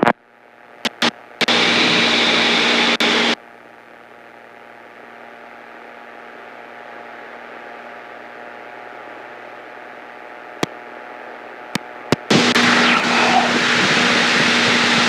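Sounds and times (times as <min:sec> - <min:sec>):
light aircraft engine drone: 0:00.2 - 0:15.0.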